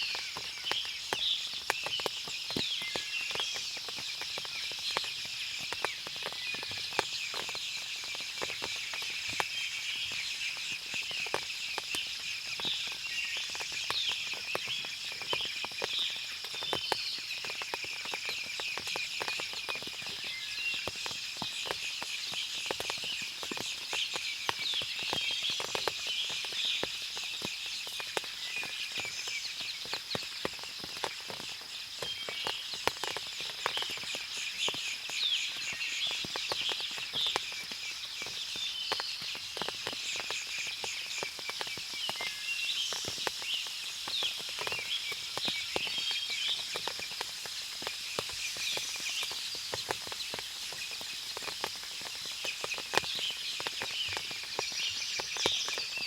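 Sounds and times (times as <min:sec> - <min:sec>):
water dripping from trees: 0:00.0 - 0:56.0.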